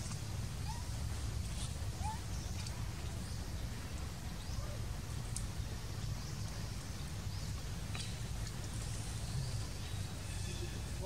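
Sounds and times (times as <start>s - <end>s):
low forest rumble: 0.0s - 11.0s.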